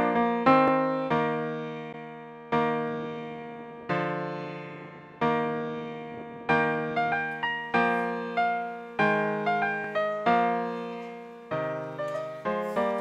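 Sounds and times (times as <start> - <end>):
slow solo piano music: 0.0 - 13.0.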